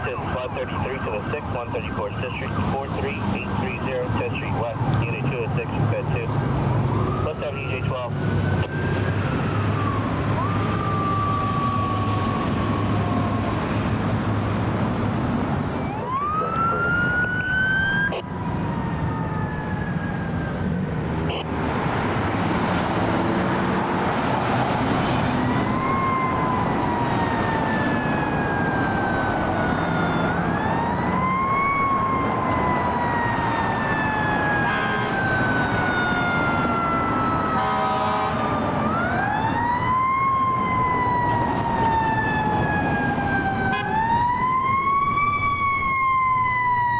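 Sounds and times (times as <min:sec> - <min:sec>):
electronic sirens wailing: 0:00.0 - 0:46.9.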